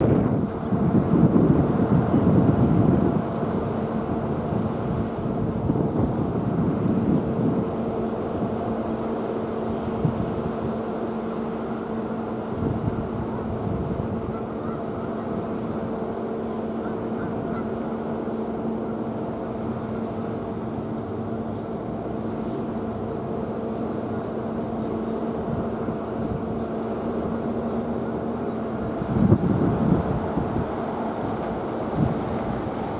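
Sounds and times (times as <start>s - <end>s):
diesel engines humming: 0.0s - 32.9s.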